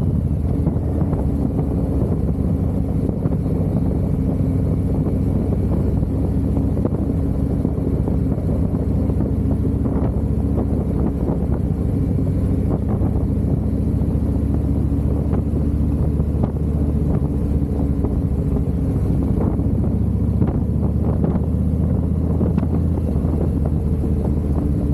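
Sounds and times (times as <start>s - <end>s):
motorcycle engine cruising: 0.0s - 24.9s
wind on microphone: 0.0s - 24.9s.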